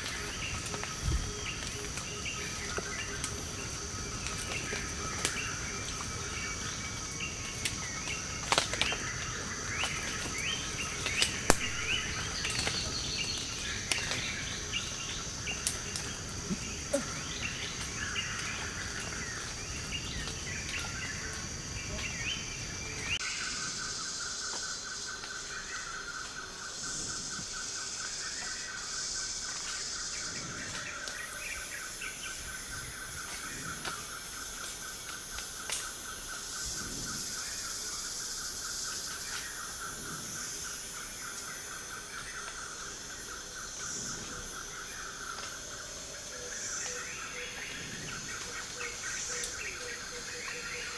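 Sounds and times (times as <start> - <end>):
insect drone: 0.0 - 50.9.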